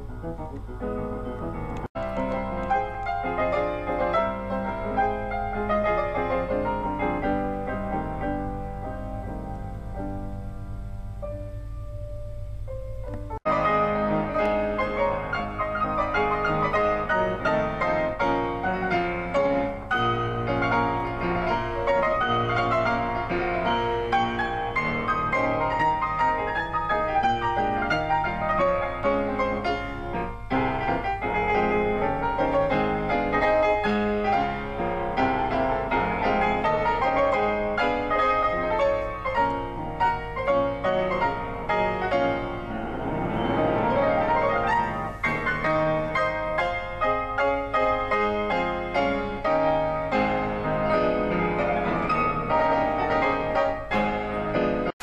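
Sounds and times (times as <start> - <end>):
solo grand piano classical piece: 0.0 - 55.0.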